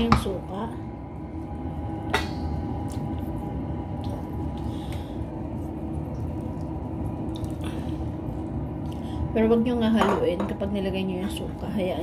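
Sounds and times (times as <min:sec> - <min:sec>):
pan bubbling and sizzling: 0:00.0 - 0:12.0.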